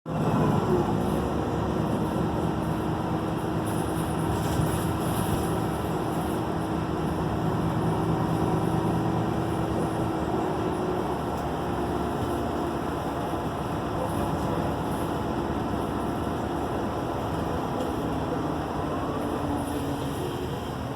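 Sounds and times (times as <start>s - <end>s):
bus engine drone: 0.0s - 20.9s
road noise: 0.1s - 20.9s.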